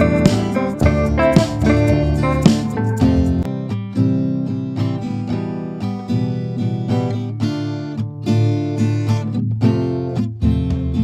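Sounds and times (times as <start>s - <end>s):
acoustic guitar tune: 0.0s - 11.0s.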